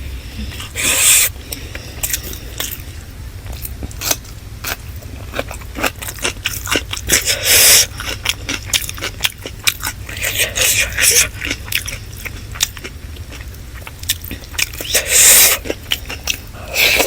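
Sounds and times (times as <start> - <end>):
wet chewing mouth clicks: 0.4 - 2.9, 3.5 - 17.0
crunchy bite: 0.6 - 17.0.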